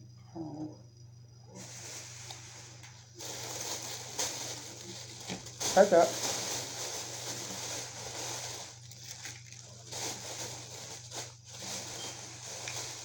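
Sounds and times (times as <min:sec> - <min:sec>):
food packaging crinkling: 0:01.6 - 0:13.0.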